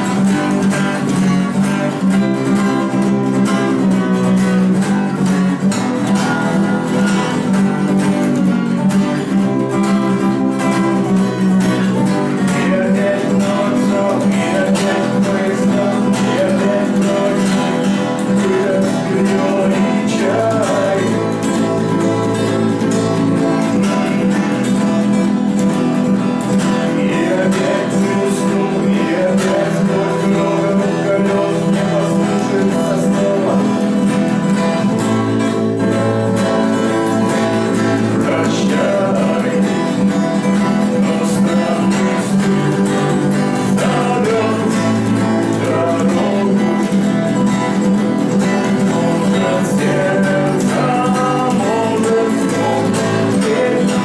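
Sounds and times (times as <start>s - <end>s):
acoustic guitar strumming: 0.0s - 54.0s
person singing: 9.4s - 25.3s, 26.2s - 54.0s.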